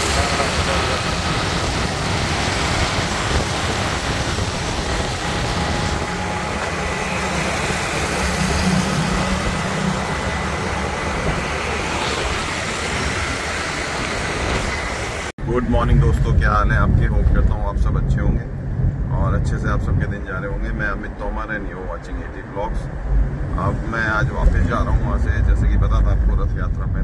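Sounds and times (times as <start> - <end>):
low engine hum: 0.0 - 27.0
road traffic noise: 0.0 - 27.0.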